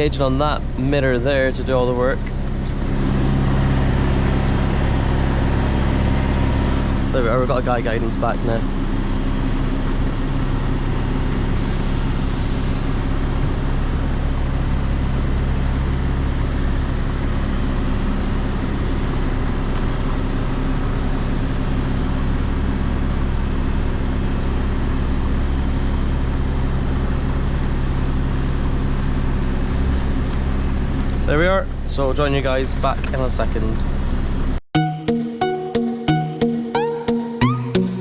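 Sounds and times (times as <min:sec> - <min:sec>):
lorry diesel engine running: 0:00.0 - 0:34.6.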